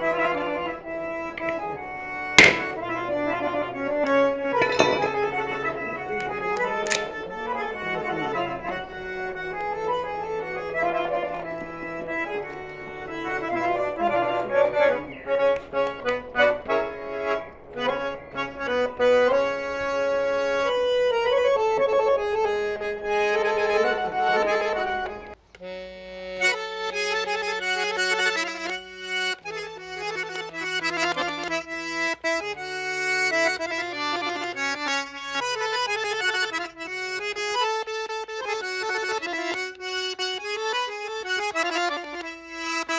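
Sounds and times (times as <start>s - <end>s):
accordion playing: 0.0s - 42.9s.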